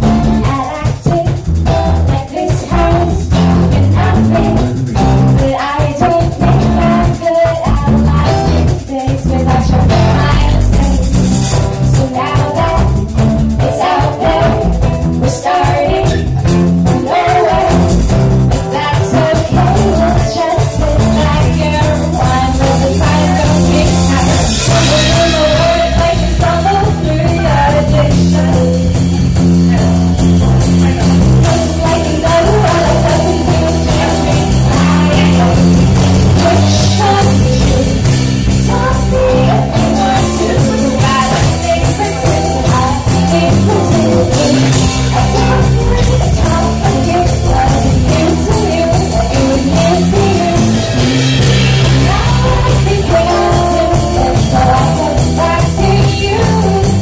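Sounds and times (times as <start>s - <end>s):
drum kit: 0.0s - 57.0s
guitar: 0.0s - 57.0s
women singing: 0.2s - 1.4s, 2.0s - 11.2s, 11.8s - 29.8s, 30.9s - 57.0s.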